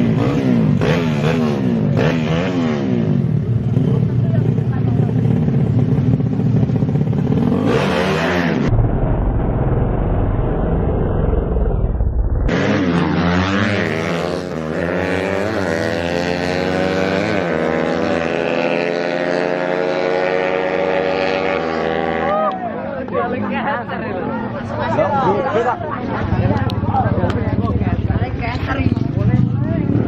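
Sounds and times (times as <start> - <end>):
motorcycle engines revving: 0.0 - 8.7, 11.1 - 30.0.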